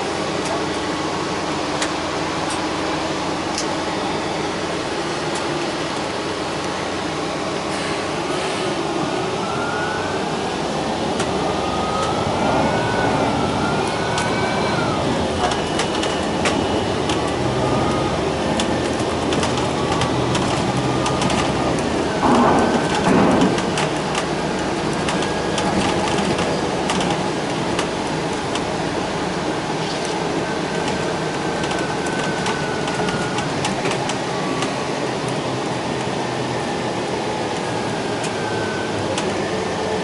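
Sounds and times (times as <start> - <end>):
bus engine whine: 0.0 - 40.0.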